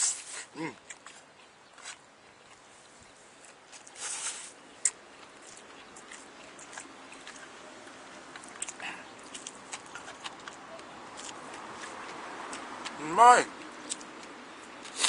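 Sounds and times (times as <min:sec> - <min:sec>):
person chewing: 0:00.2 - 0:02.7, 0:03.4 - 0:15.0.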